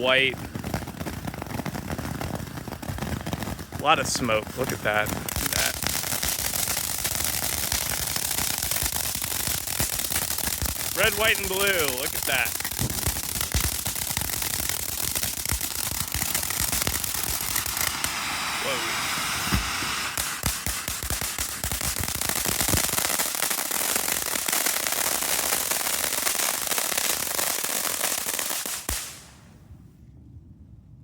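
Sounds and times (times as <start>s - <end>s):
fireworks fountain crackling and popping: 0.0s - 29.6s.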